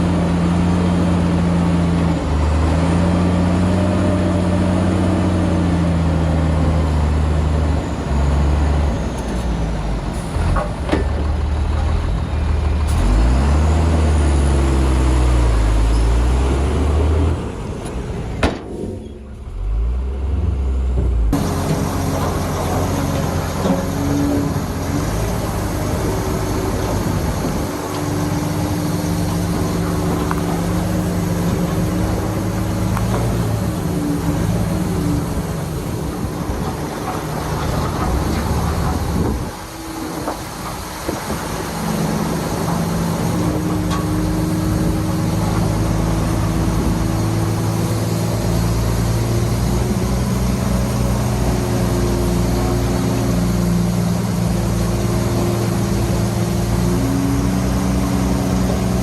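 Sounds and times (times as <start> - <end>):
diesel machinery engine running: 0.0 - 59.0.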